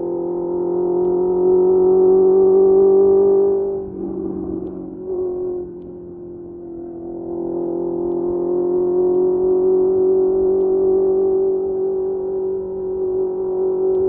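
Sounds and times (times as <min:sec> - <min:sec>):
motorcycle engine steady pitch: 0:00.0 - 0:14.0.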